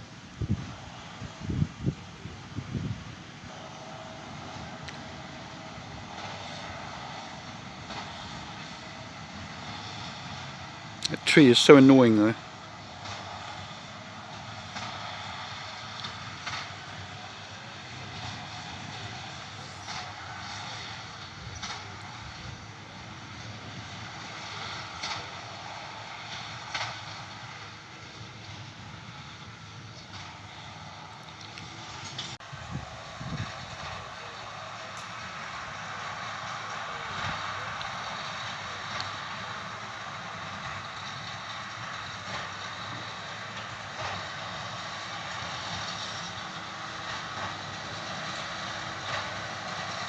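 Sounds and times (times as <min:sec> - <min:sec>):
distant tractor engine: 0:00.0 - 0:50.0.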